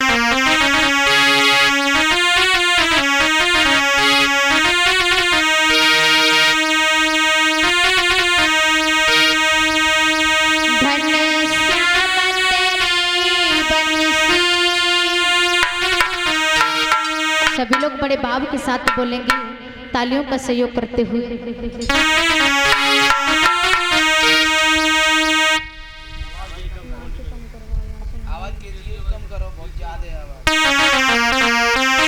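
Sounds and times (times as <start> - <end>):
electronic keyboard melody: 0.0 - 26.8, 30.5 - 32.0.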